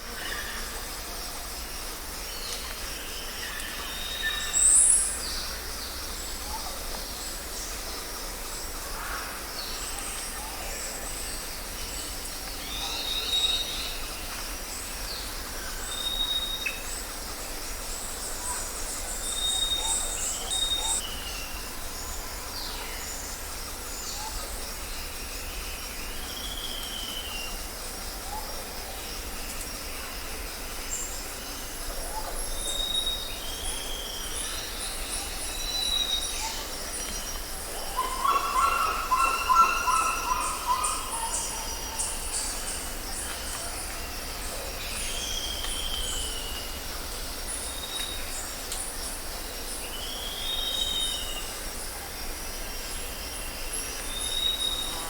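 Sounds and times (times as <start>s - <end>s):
insects chorus hissing: 0.0s - 55.0s.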